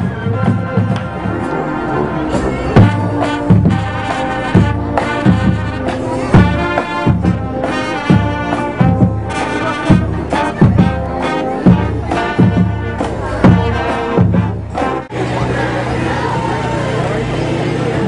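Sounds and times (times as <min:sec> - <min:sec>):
steady low drum beat: 0:00.0 - 0:15.3
brass chords: 0:00.0 - 0:15.8.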